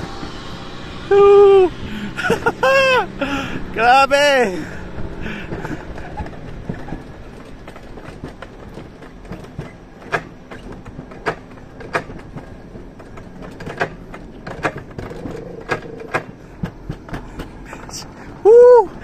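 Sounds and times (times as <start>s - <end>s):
sled wheels rumbling on rail: 0.0s - 19.0s
wheels clacking over rail joints: 1.8s - 19.0s.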